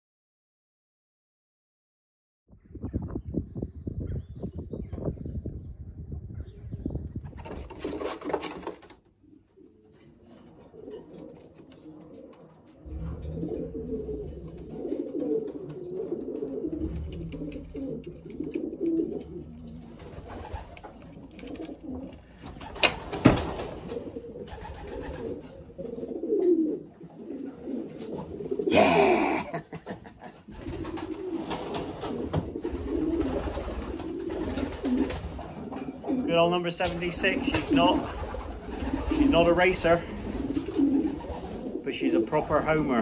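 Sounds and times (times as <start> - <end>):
pigeons cooing: 6.4 - 43.0.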